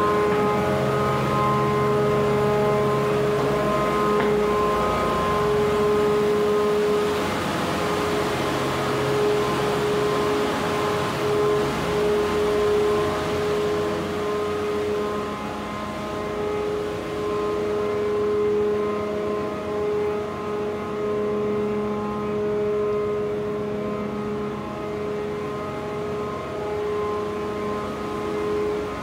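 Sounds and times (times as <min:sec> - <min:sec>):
mid-pitched whine: 0:00.0 - 0:29.0
ship machinery droning: 0:00.0 - 0:29.0.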